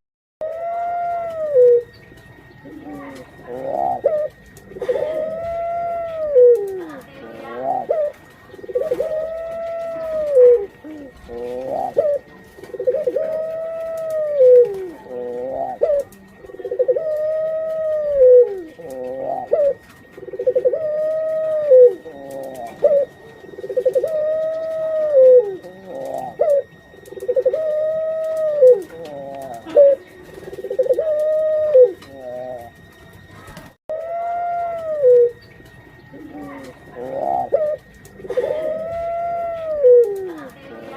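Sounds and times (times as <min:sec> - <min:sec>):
dove cooing: 0:00.4 - 0:40.9.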